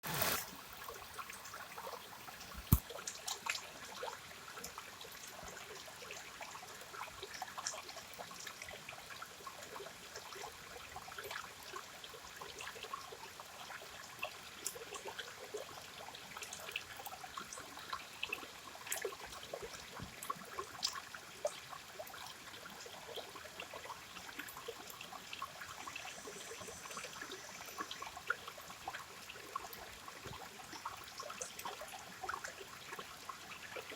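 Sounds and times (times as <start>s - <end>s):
river water flowing and trickling: 0.0s - 33.9s.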